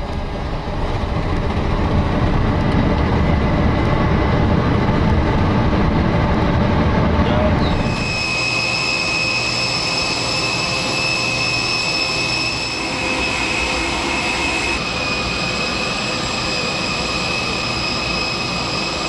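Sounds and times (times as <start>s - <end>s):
jet turbine running: 0.0s - 19.0s.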